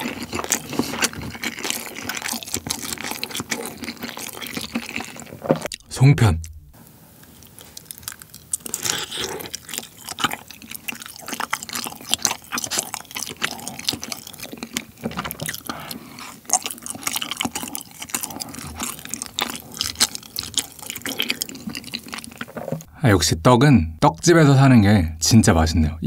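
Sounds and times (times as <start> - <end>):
wet chewing with mouth clicks: 0.0 - 6.6, 7.2 - 22.9.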